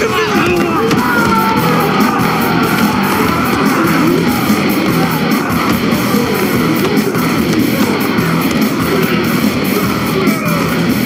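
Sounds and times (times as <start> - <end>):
hard rock music with electric guitar: 0.0 - 11.0.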